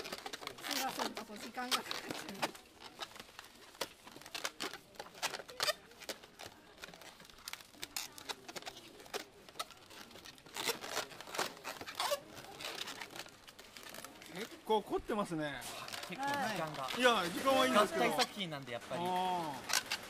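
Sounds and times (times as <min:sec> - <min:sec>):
balloons squeaking and rubbing: 0:00.0 - 0:20.0.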